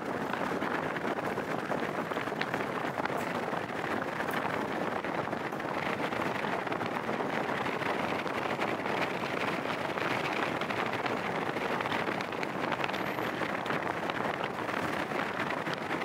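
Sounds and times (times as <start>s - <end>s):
wind on microphone: 0.0s - 16.0s
vehicle travelling on road: 0.2s - 16.0s.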